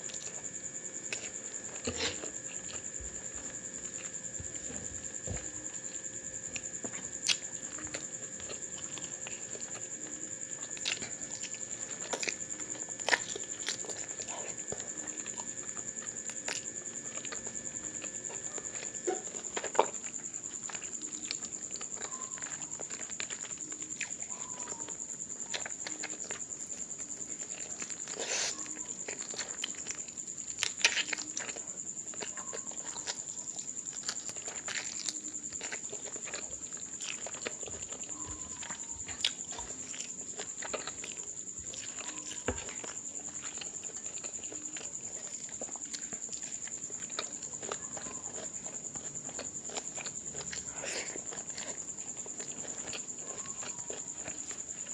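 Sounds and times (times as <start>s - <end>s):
chewing and lip smacks: 0.0s - 54.9s
faint steady hum: 0.0s - 54.9s.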